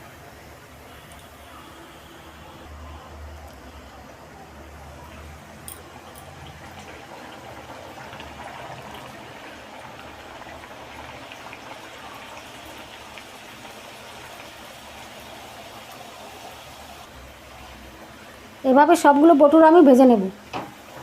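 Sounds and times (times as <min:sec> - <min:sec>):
dough deep-frying in hot oil: 0:00.0 - 0:21.0.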